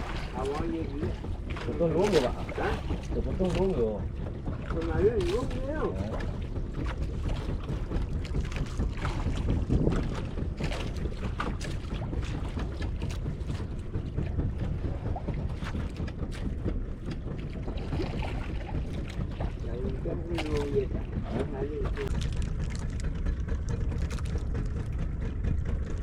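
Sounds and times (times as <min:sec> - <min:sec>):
water against boat hull: 0:00.0 - 0:26.0
water splashes: 0:00.0 - 0:26.0
wind buffeting microphone: 0:00.0 - 0:26.0.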